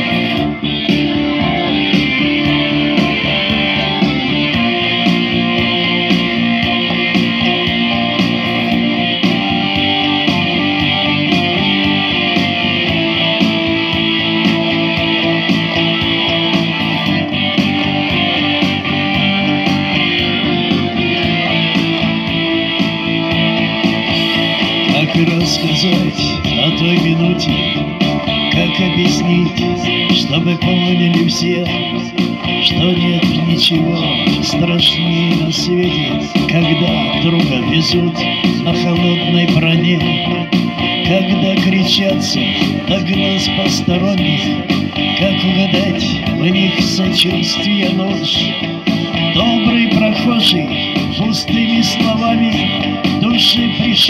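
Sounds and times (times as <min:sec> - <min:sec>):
electric guitar: 0:00.0 - 0:54.0
steady drum beat: 0:00.0 - 0:54.0.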